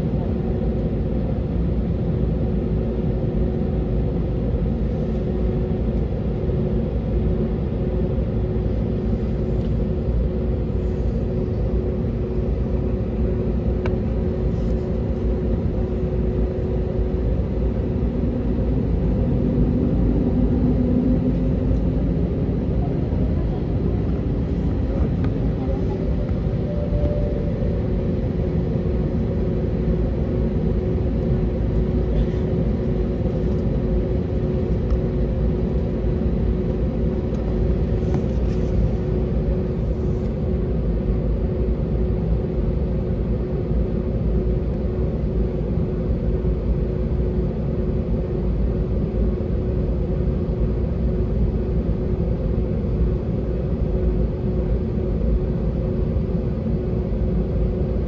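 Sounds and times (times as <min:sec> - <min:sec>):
jet cabin engine rumble and hum: 0:00.0 - 0:58.0.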